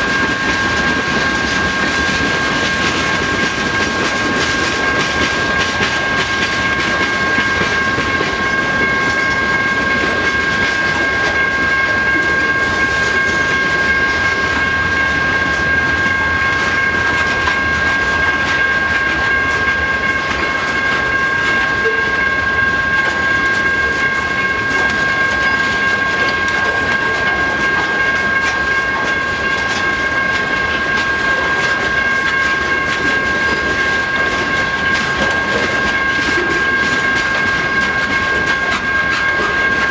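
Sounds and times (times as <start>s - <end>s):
freight train rolling past: 0.0s - 39.9s
high-pitched ringing tone: 0.0s - 39.9s
wheels clicking over rail joints: 0.0s - 39.9s.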